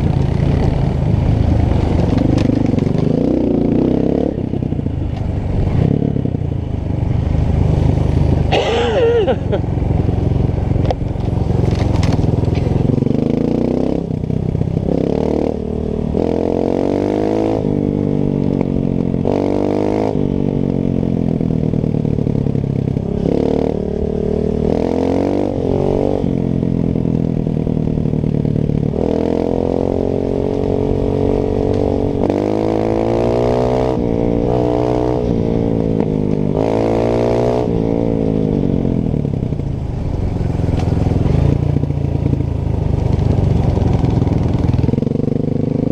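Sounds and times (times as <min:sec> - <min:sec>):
trail bike engine revving: 0:07.1 - 0:45.9.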